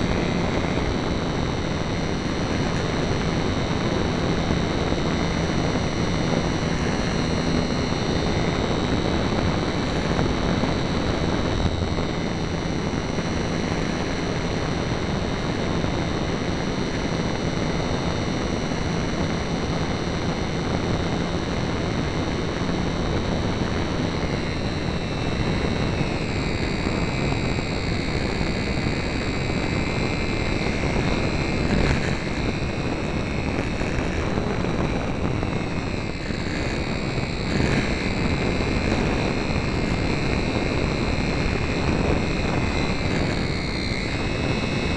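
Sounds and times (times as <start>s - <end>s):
electric motor whine: 0.0s - 44.9s
propeller buzz: 0.0s - 44.9s
rushing wind: 0.0s - 44.9s.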